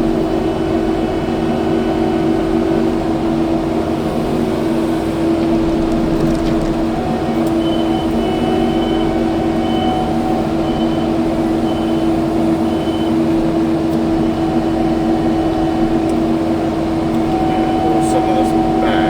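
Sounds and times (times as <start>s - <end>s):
skid steer diesel engine: 0.0s - 19.0s.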